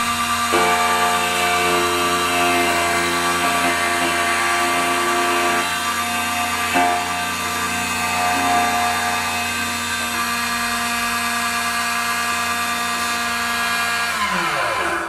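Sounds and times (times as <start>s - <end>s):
key cutting machine whine: 0.0s - 15.0s.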